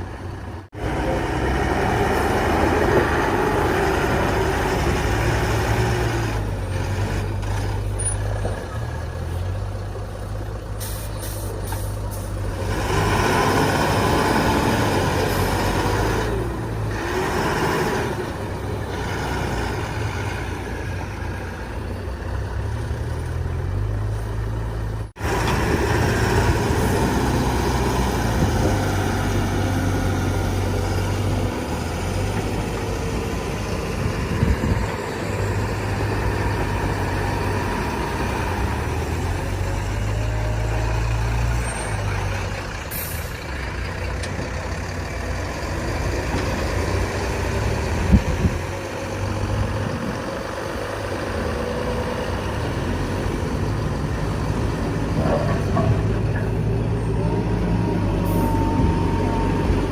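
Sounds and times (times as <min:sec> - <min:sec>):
backhoe diesel engine working: 0:00.0 - 0:59.9.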